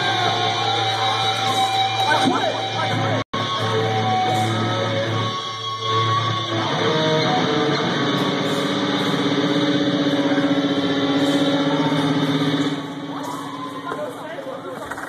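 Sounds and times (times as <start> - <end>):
distorted electric guitars and bass: 0.0 - 13.9.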